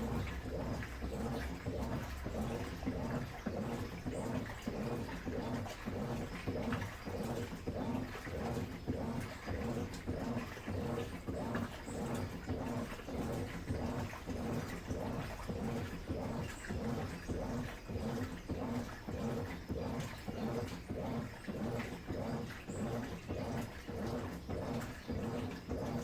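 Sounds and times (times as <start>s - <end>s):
washing machine motor humming: 0.0s - 26.0s
water sloshing in tub: 0.0s - 26.0s.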